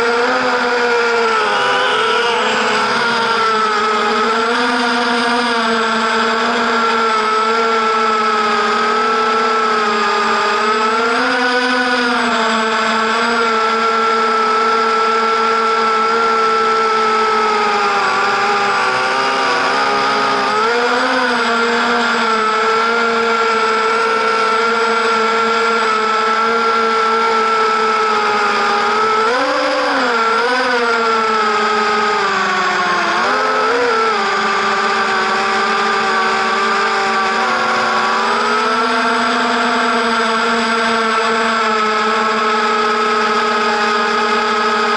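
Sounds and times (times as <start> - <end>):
quadcopter motors whining: 0.0 - 44.9.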